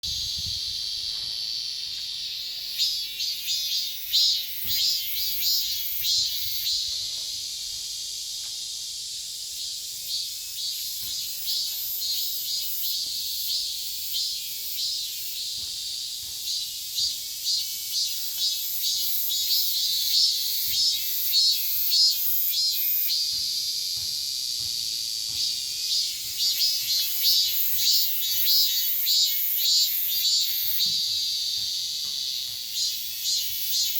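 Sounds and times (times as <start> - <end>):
cicada singing: 0.0 - 33.9.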